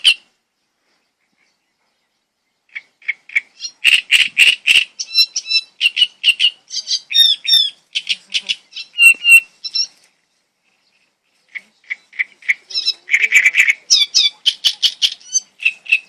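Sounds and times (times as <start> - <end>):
bird singing sharp notes: 1.3 - 16.0.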